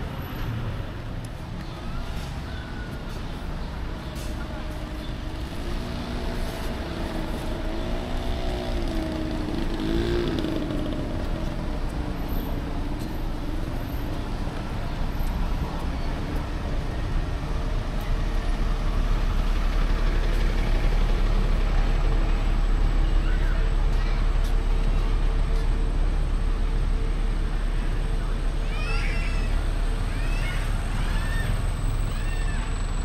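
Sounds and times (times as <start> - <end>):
vehicles passing on street: 0.0 - 33.0.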